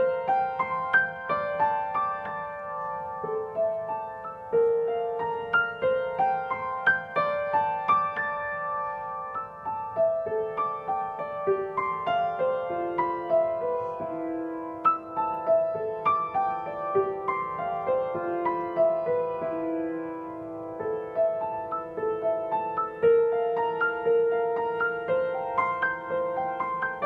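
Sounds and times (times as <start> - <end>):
slow gentle piano melody: 0.0 - 27.0.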